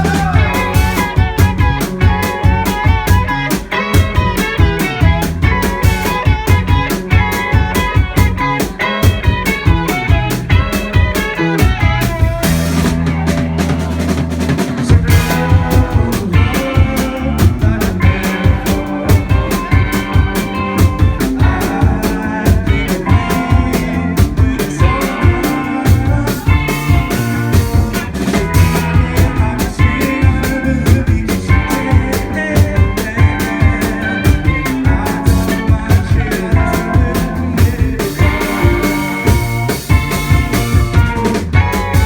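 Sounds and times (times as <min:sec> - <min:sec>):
bass guitar: 0:00.0 - 0:42.0
drum kit beat: 0:00.0 - 0:42.0
electric guitar: 0:00.0 - 0:42.0.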